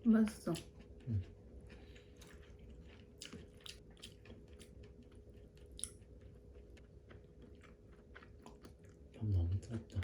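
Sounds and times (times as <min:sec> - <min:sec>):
person chewing food: 0:00.5 - 0:10.0.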